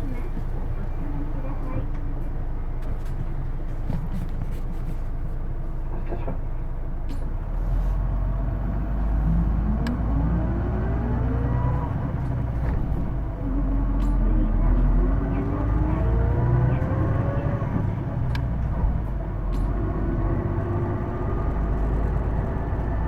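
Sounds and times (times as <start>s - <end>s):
bus diesel engine rumble: 0.0s - 23.0s.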